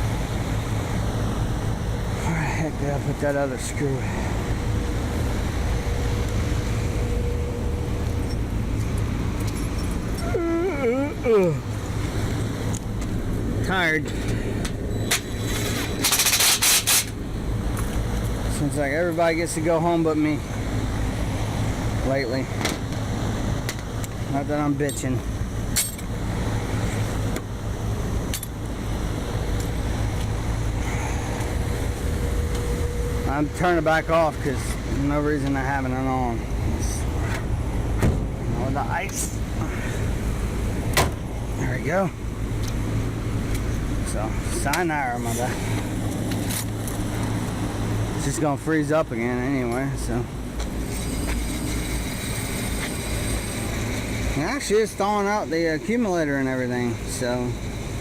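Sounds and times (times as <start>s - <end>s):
air conditioning unit running: 0.0s - 58.0s
faint steady hum: 0.0s - 58.0s.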